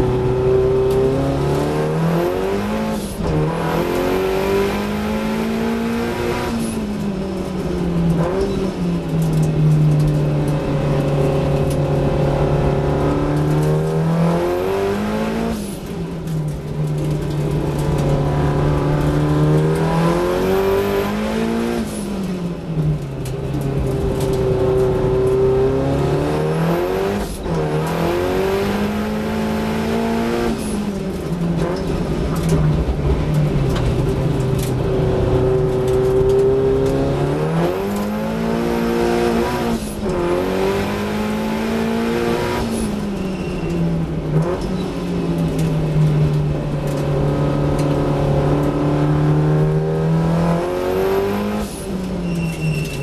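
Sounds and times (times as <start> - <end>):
race car engine: 0.0 - 53.0.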